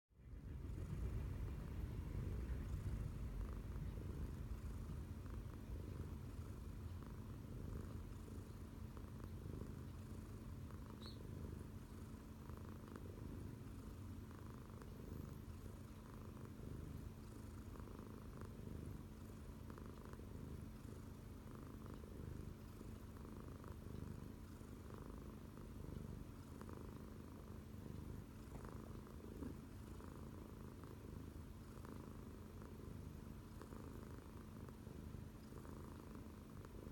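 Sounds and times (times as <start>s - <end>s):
cat purring: 0.1s - 36.9s.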